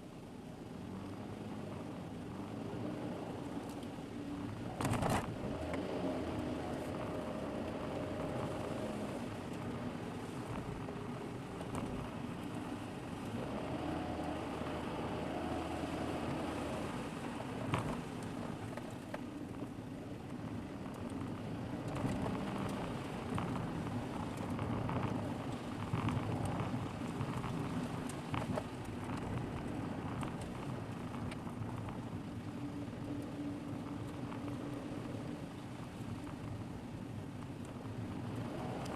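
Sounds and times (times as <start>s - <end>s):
car engine hum: 0.0s - 38.9s
tyre and road noise: 0.0s - 38.9s.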